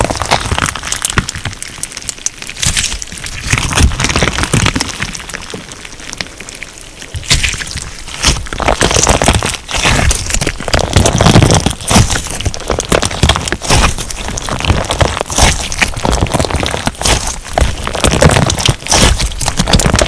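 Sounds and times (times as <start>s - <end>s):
slime crackling and popping: 0.0s - 20.0s.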